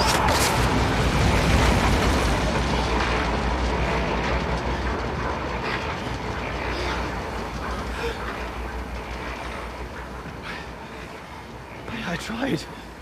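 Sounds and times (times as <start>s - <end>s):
deep mechanical rumble: 0.0s - 13.0s.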